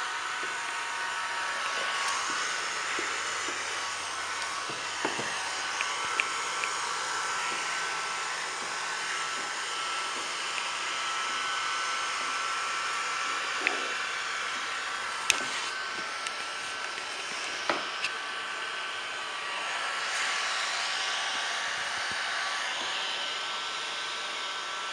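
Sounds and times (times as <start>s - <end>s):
heat gun blowing: 0.0s - 24.4s.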